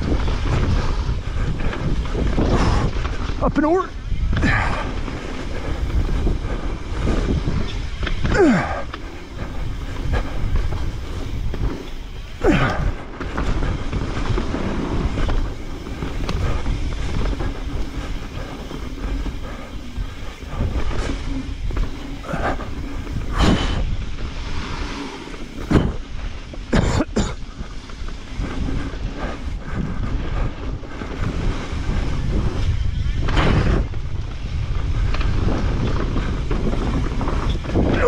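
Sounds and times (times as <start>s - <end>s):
bike rattling: 0.0s - 38.0s
bike tyres rumbling on dirt: 0.0s - 38.0s.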